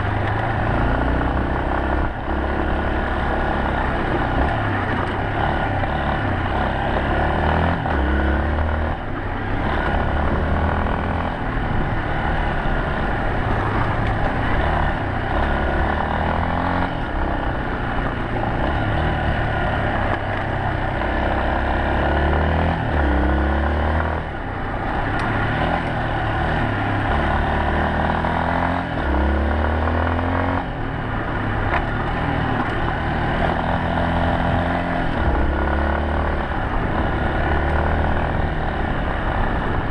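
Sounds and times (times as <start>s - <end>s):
constant rushing noise: 0.0s - 39.9s
motorcycle engine accelerating: 0.0s - 39.9s.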